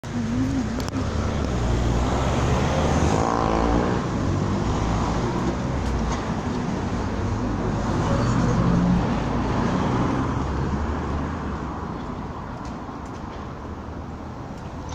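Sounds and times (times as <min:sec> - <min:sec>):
street traffic engine drone: 0:00.0 - 0:14.9.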